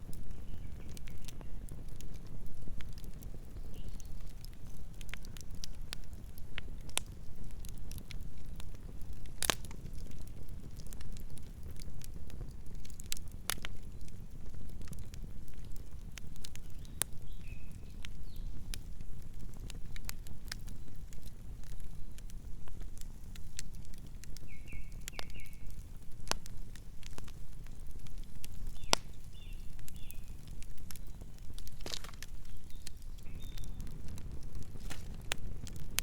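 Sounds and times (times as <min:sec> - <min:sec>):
campfire flames rumbling: 0:00.0 - 0:36.0
wood crackling and popping: 0:00.0 - 0:36.0.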